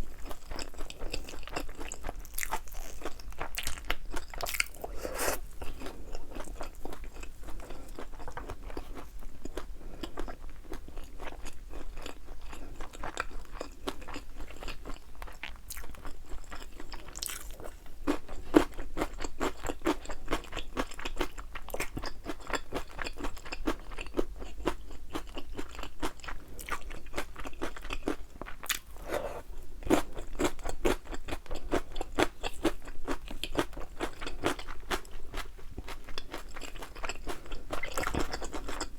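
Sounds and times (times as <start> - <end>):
crunching fried chicken: 0.1 - 38.9.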